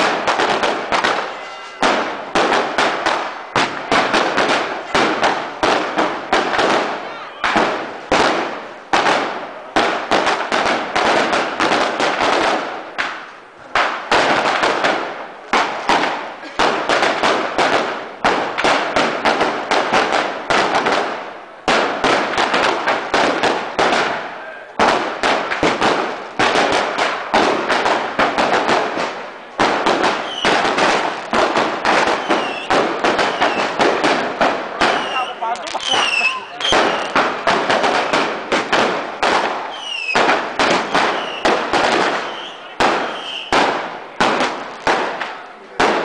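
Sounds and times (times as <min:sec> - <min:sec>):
firecrackers banging: 0:00.0 - 0:46.0.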